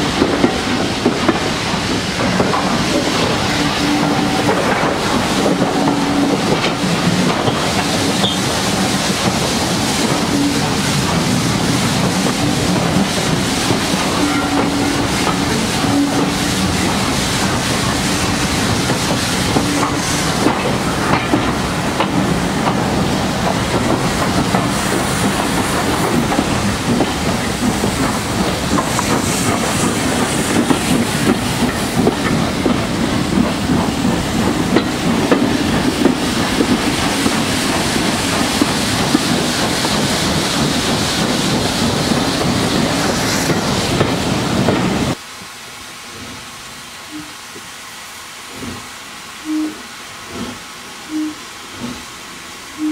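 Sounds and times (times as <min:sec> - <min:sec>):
train wheels clicking over rail joints: 0:00.0 - 0:45.2, 0:49.7 - 0:52.2
steam hissing: 0:00.0 - 0:52.9.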